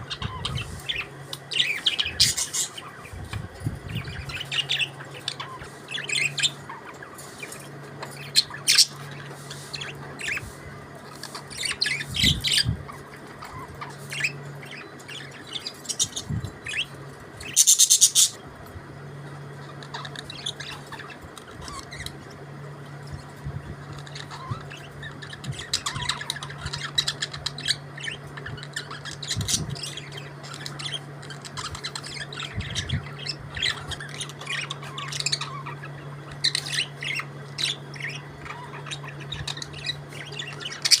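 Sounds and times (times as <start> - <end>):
budgerigars chirping and warbling: 0.0 - 18.5, 19.1 - 41.0
steady low hum: 0.0 - 41.0.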